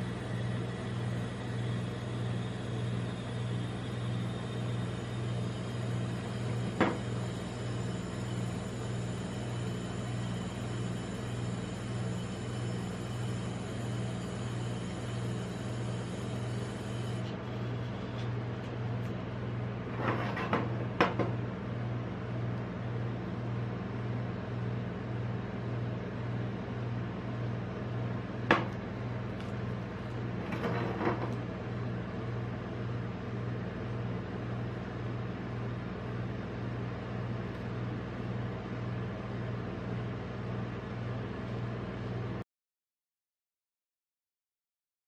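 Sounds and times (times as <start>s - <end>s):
refrigeration unit humming: 0.0s - 42.4s.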